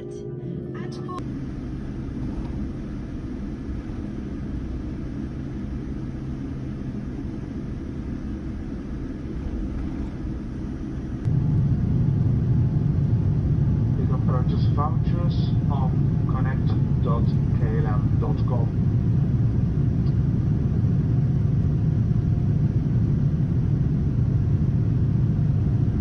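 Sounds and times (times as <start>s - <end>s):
faint hum: 0.0s - 26.0s
jet engine rumble: 0.0s - 26.0s.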